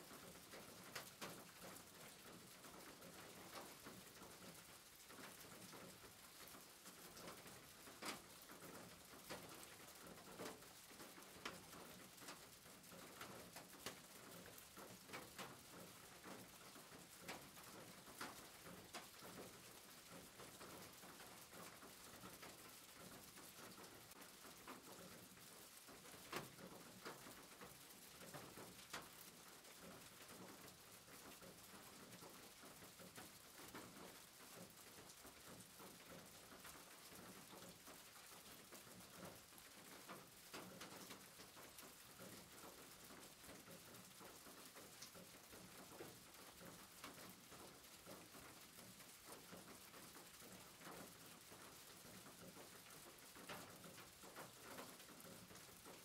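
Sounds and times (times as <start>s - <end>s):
rain pattering on a roof: 0.0s - 56.0s.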